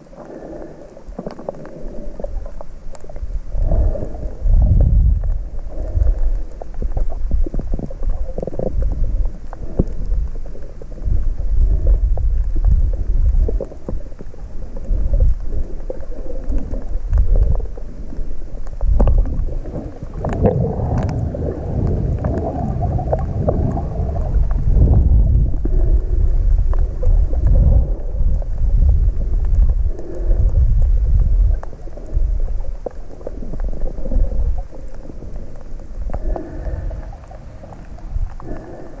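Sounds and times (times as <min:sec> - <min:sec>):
underwater water rumble and sloshing: 0:00.0 - 0:39.0
water gurgling: 0:00.0 - 0:39.0.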